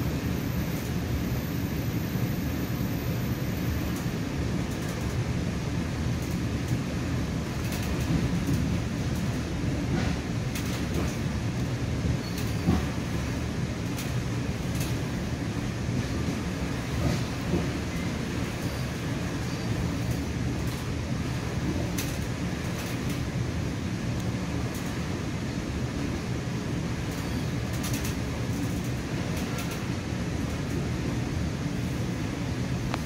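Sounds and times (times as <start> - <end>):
train running on rails: 0.0 - 33.0.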